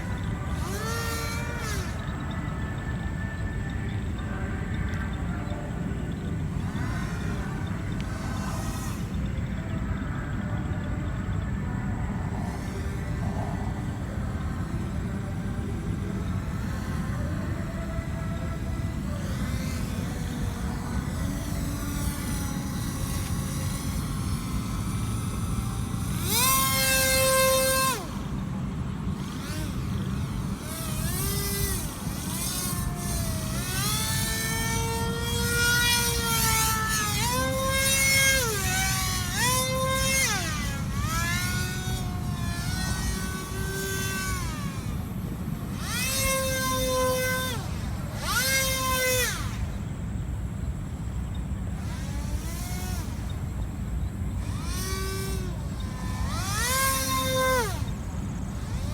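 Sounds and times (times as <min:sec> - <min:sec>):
propeller motor whining: 0:00.0 - 0:58.9.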